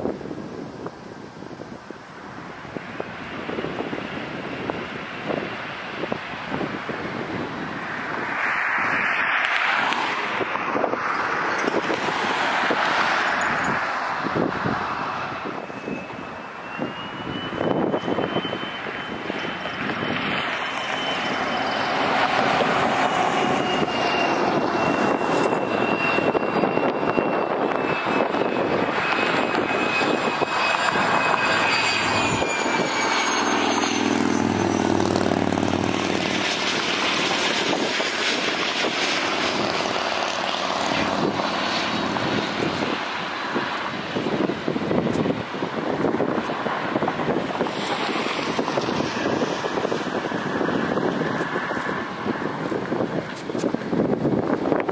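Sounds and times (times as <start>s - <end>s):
jet engines on runway: 0.0s - 54.9s
jet turbine whine: 0.0s - 54.9s
low engine drone: 0.0s - 54.9s.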